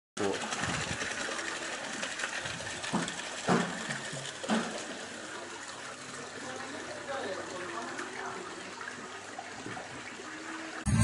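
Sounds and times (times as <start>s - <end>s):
water and beans rushing: 0.2s - 11.0s.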